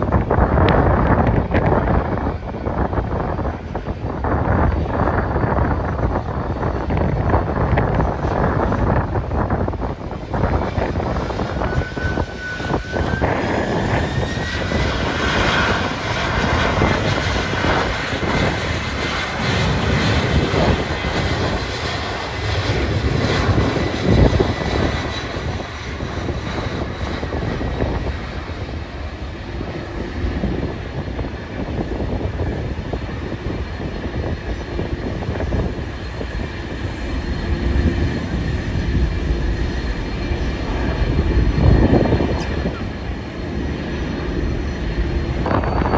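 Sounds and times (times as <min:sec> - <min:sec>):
aircraft engines whining: 0:00.0 - 0:45.9
wind buffeting microphone: 0:00.0 - 0:45.9.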